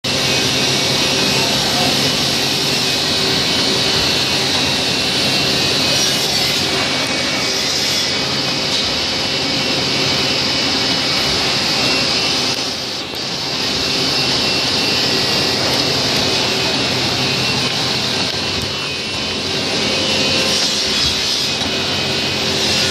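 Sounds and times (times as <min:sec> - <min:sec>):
drilling machine running: 0:00.0 - 0:22.9
motor hum: 0:00.1 - 0:22.9.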